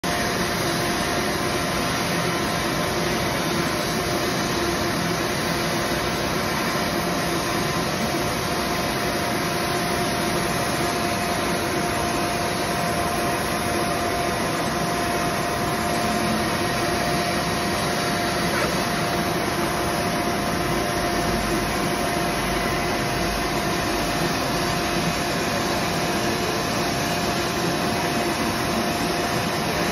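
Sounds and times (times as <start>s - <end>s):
hot air welder blowing: 0.1s - 29.9s.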